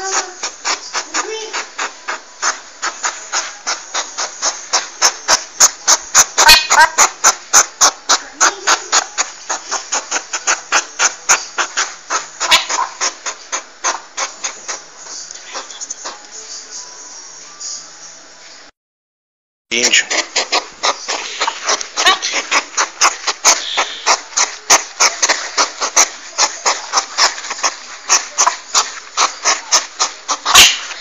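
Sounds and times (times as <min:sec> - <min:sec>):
porcupine clicking: 0:00.0 - 0:16.4, 0:19.8 - 0:31.0
porcupine squeaky calls: 0:00.0 - 0:16.6, 0:19.8 - 0:31.0.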